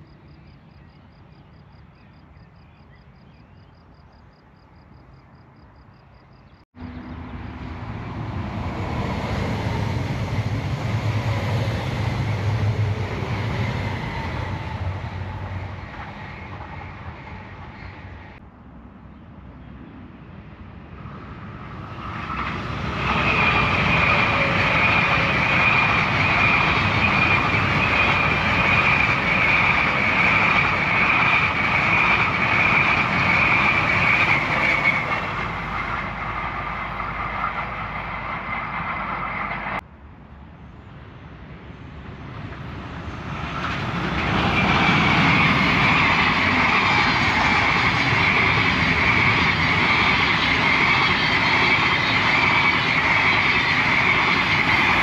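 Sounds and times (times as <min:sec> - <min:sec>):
electric train passing: 0:04.5 - 0:18.9, 0:20.2 - 0:55.0.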